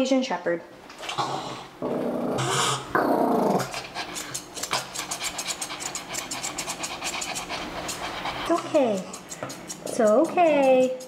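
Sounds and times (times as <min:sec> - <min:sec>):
dog growling and snarling: 0:01.0 - 0:10.1.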